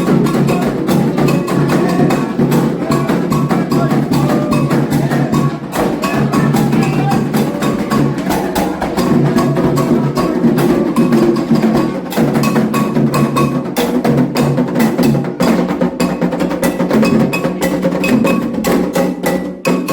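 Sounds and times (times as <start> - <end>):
hand drums: 0.0 - 19.9.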